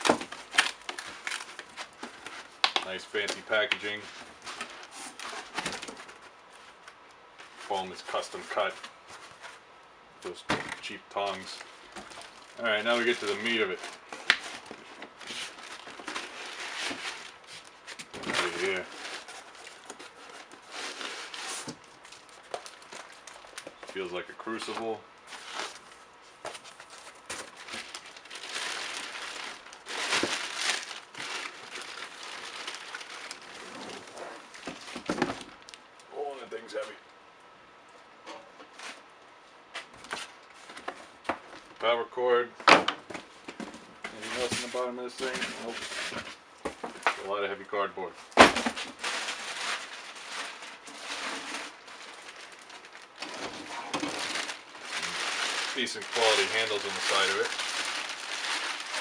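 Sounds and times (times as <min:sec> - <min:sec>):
cardboard and foam packaging rustling: 0:00.0 - 0:36.9, 0:38.6 - 0:41.9, 0:42.5 - 0:59.0.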